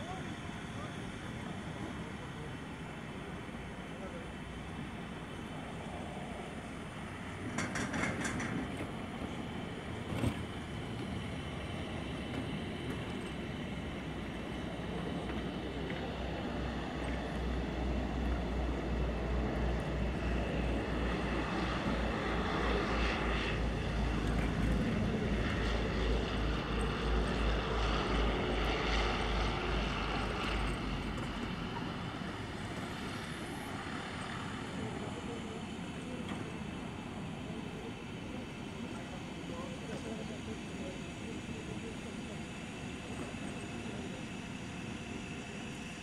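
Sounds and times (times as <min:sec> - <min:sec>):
aircraft propeller engines throbbing: 0:00.0 - 0:46.0.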